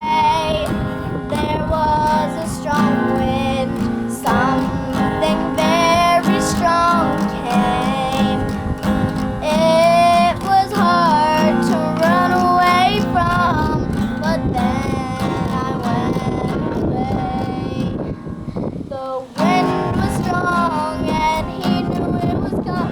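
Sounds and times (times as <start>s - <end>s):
acoustic guitar: 0.0s - 22.9s
girl singing: 0.0s - 22.9s.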